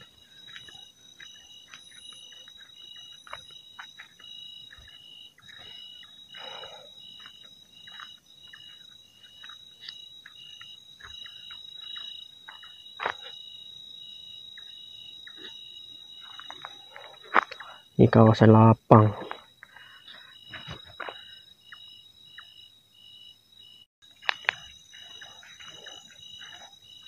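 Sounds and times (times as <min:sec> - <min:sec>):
insects and frogs calling: 0:00.0 - 0:27.0.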